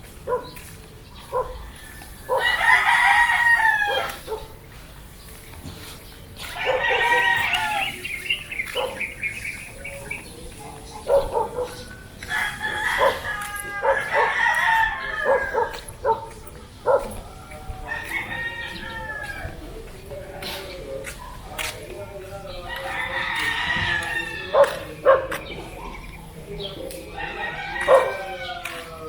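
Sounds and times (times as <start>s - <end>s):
roosters crowing: 0.0s - 4.8s, 5.7s - 20.2s, 22.3s - 29.0s.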